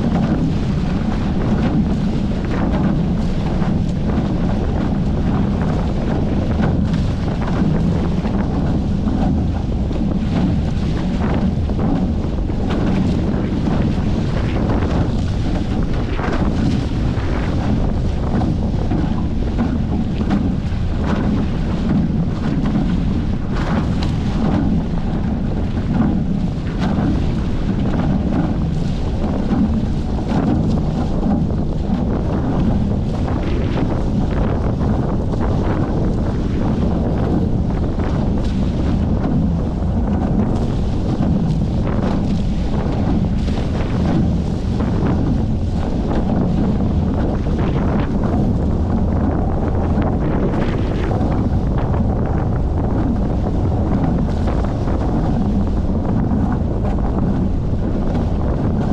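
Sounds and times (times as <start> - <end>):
water splashing against hull: 0.0 - 58.9
wind buffeting microphone: 0.0 - 58.9.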